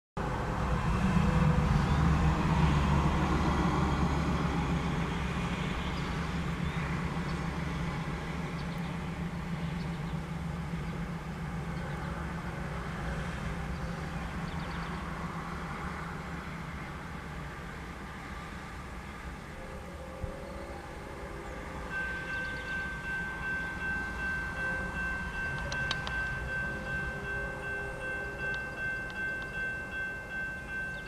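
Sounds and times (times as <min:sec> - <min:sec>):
diesel locomotives droning: 0:00.2 - 0:31.0
rail rumble: 0:00.2 - 0:31.0.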